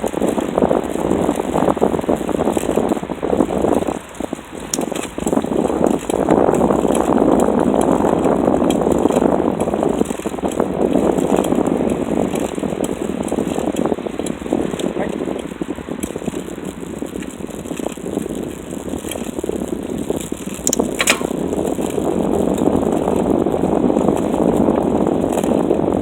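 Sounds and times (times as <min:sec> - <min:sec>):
bicycle rattling and clicking: 0:00.0 - 0:26.0
steady rushing noise: 0:00.0 - 0:26.0.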